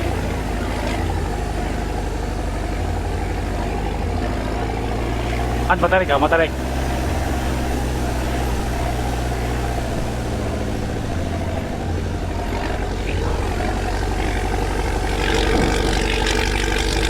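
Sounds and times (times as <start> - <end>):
off-road vehicle engine drone: 0.0 - 17.0.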